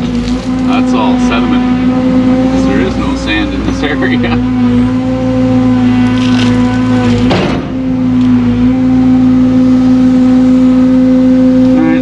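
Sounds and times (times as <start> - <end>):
construction machine engine running: 0.0 - 12.0.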